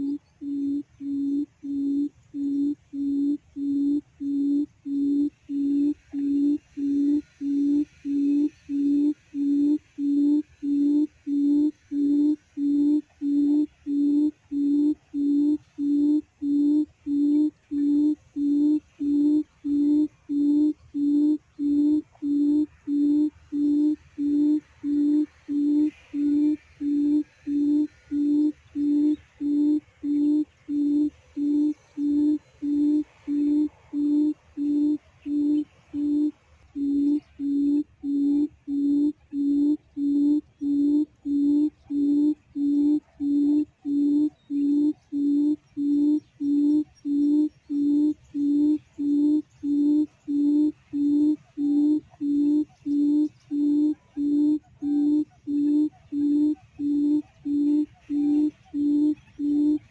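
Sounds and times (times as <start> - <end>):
faint insect buzz: 0.0 - 59.9
quail call low hoot: 0.0 - 59.9.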